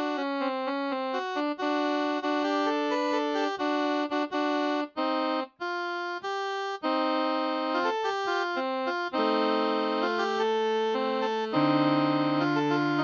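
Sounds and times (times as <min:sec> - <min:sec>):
electronic keyboard melody: 0:00.0 - 0:13.0.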